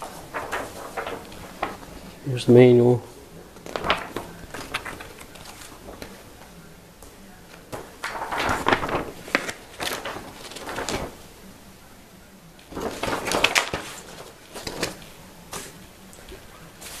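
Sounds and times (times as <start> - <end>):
paper pages rustling: 0.0 - 11.6, 12.6 - 17.0.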